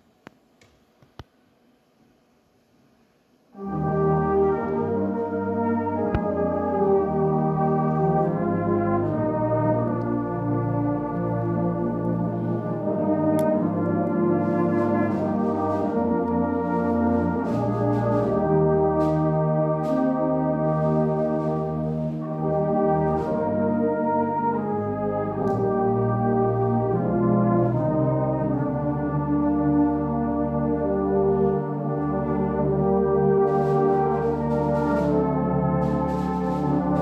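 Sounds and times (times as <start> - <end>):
brass band playing chords: 3.5 - 37.0.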